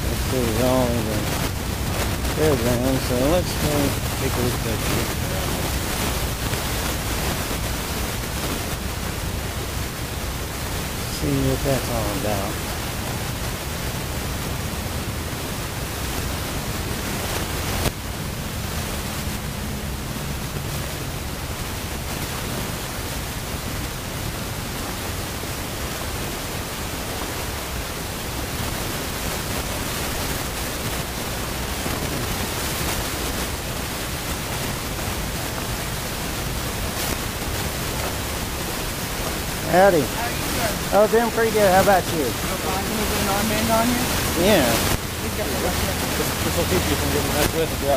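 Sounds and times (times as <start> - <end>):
steady rushing noise: 0.0 - 47.9.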